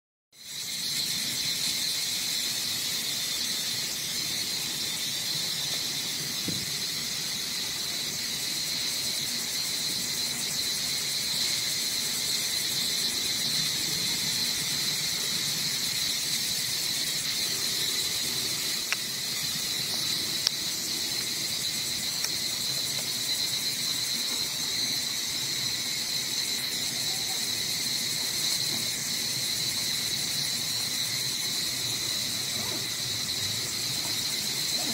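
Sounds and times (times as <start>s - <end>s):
insect chorus buzzing: 0.4s - 34.9s.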